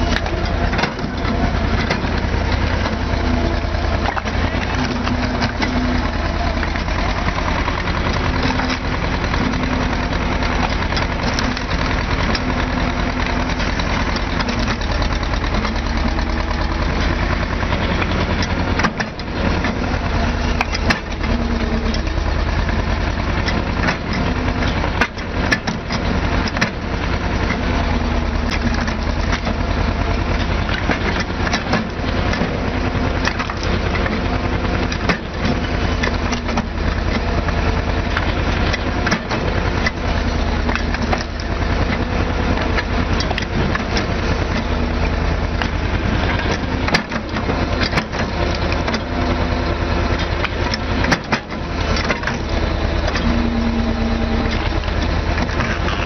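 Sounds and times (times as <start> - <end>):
low motor drone: 0.0 - 56.0.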